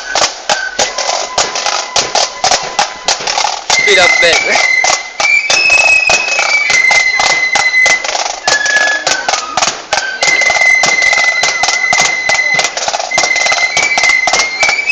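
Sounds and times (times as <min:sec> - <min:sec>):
fast clattering percussion: 0:00.0 - 0:14.9
shrill held notes: 0:00.0 - 0:14.9.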